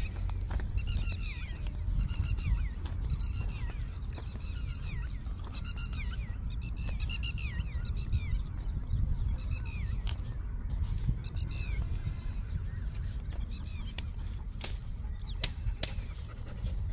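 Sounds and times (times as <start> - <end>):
wind rumble on microphone: 0.0 - 16.9.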